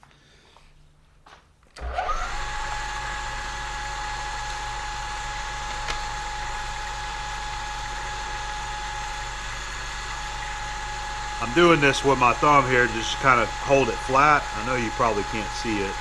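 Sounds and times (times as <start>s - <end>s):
milling machine spindle whine: 1.8s - 16.0s.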